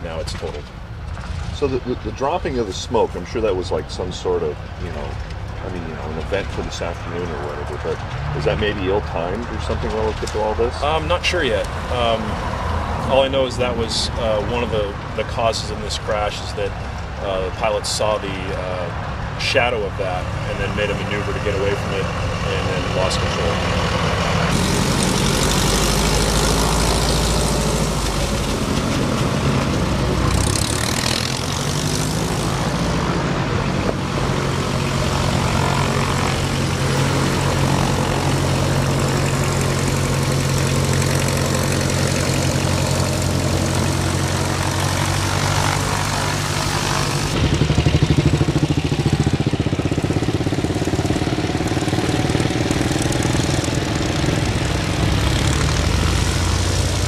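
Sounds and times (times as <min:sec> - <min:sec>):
engine humming: 0:00.0 - 0:57.0
propeller airplane engine: 0:00.0 - 0:57.0.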